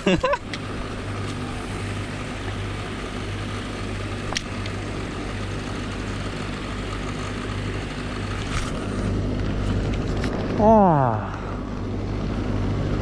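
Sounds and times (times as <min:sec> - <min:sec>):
paddlewheel aerators droning: 0:00.0 - 0:13.0.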